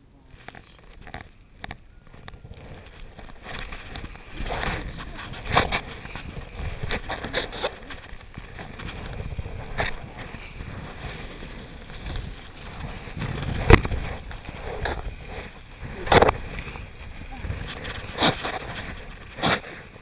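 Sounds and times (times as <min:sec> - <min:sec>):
wind buffeting microphone: 0:00.2 - 0:20.0.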